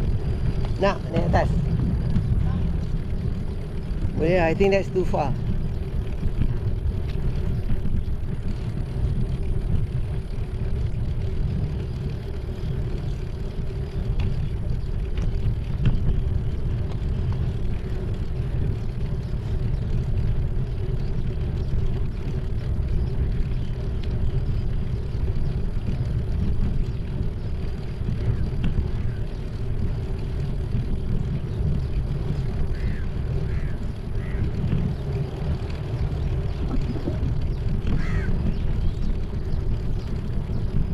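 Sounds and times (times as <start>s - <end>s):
bicycle tyres rolling on concrete: 0.0s - 40.9s
wind rumble on microphone: 0.0s - 40.9s.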